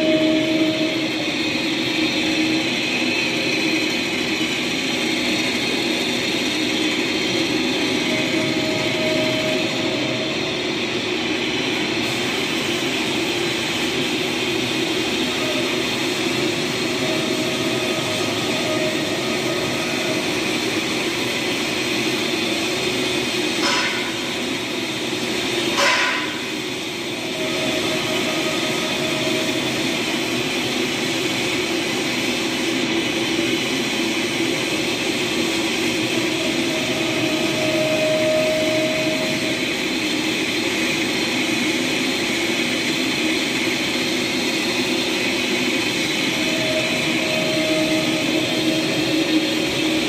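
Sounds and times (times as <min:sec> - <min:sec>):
lathe running: 0:00.0 - 0:50.0.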